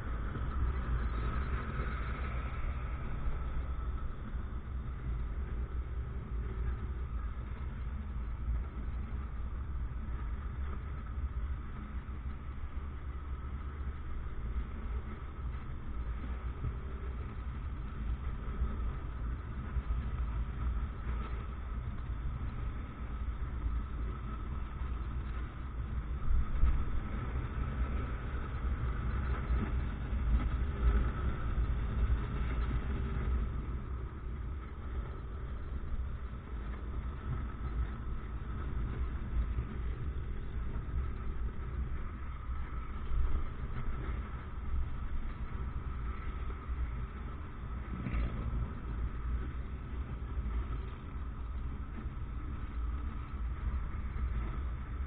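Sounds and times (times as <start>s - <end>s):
road noise: 0.0s - 55.0s.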